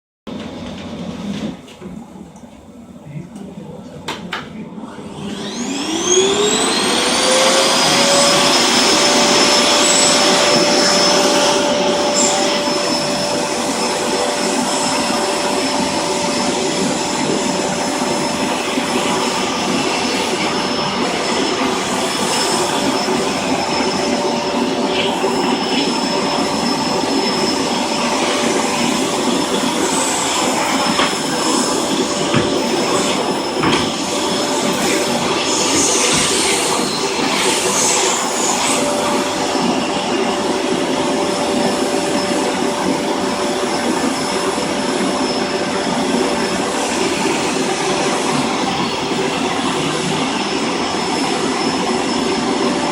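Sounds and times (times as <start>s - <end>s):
vacuum cleaner motor whine: 0.3s - 52.9s.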